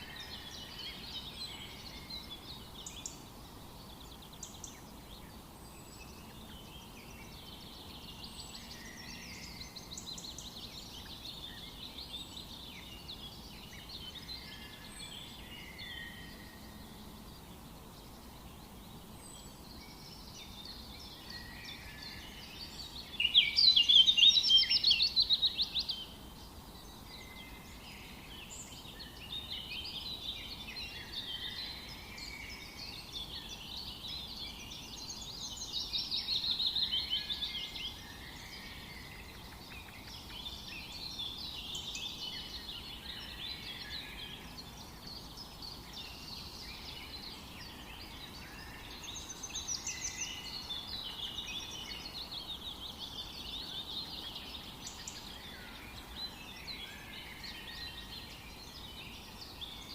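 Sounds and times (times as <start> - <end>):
close bird rapid song: 0.0 - 59.9
songbirds singing: 0.0 - 59.9.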